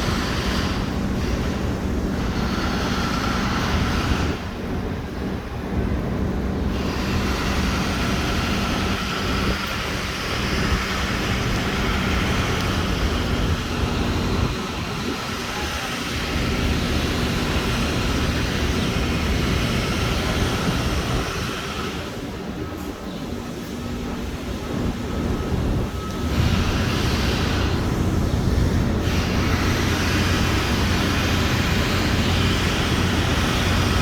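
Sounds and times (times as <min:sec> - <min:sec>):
low engine hum: 0:00.0 - 0:34.0
vehicle engines running: 0:00.0 - 0:34.0.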